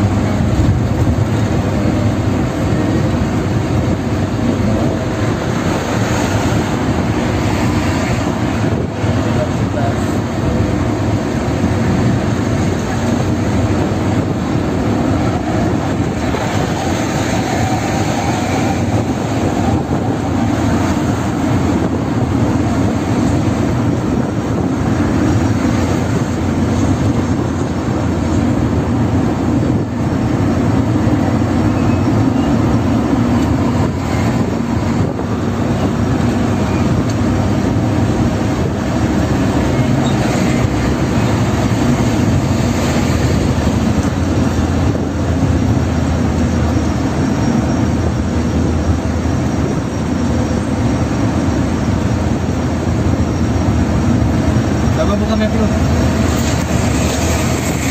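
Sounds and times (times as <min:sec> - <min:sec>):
vehicle engine and tyre drone: 0:00.0 - 0:57.9.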